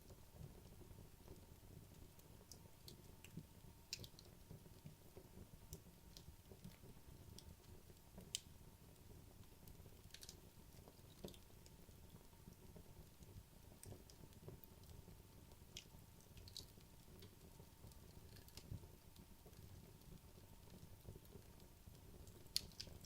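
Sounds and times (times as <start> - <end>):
logs crackling in a fireplace: 0.0 - 23.0.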